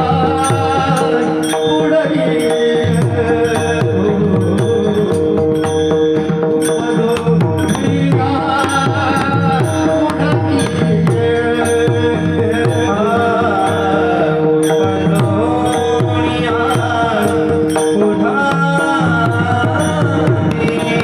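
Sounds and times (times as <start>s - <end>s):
pakhawaj drumming: 0.0s - 21.0s.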